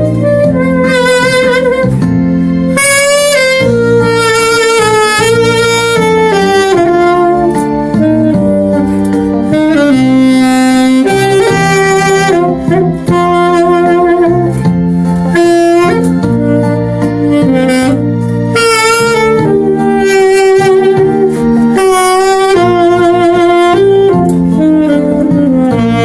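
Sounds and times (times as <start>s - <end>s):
alto saxophone melody: 0.0s - 26.0s
backing track of sustained chords: 0.0s - 26.0s.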